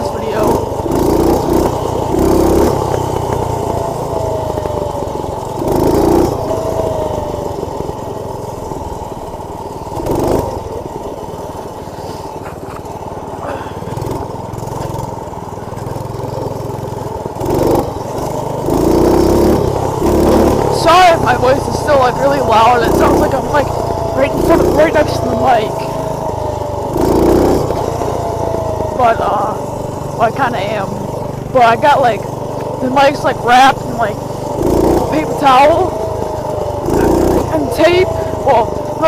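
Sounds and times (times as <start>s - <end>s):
muffled minibike engine running: 0.0s - 39.0s
wind: 0.0s - 39.0s.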